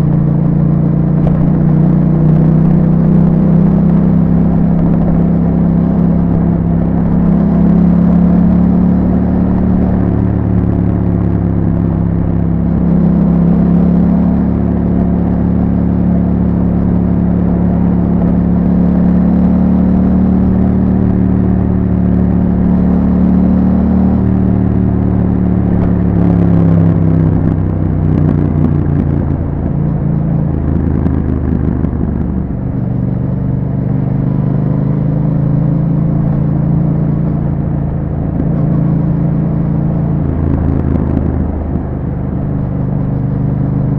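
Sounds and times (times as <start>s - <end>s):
motorcycle engine while riding: 0.0s - 43.9s.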